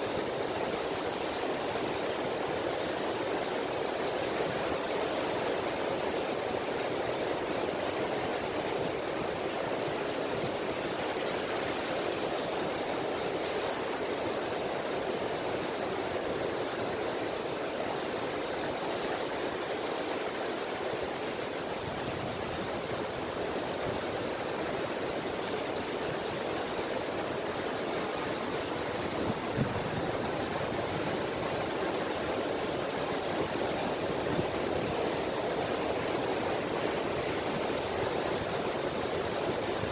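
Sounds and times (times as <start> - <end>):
small waves lapping on beach: 0.0 - 39.9.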